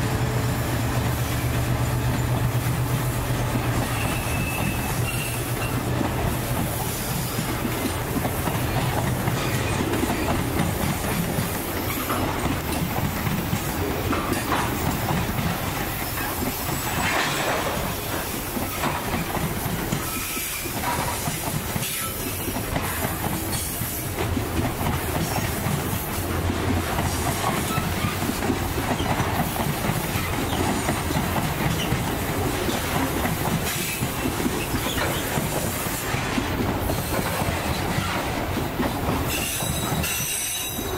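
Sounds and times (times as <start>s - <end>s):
train wheels rumbling and clattering: 0.0s - 40.9s.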